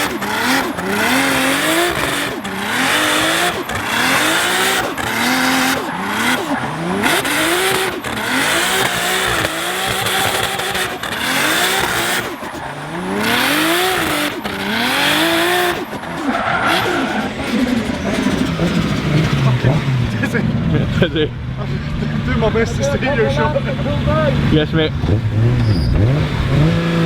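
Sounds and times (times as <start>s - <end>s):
car engine revving: 0.0s - 27.0s
loud tyre noise: 0.0s - 27.0s.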